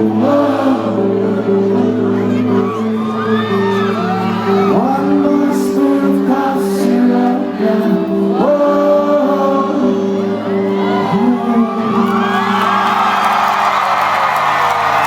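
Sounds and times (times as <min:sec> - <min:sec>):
sung vocals: 0:00.0 - 0:15.0.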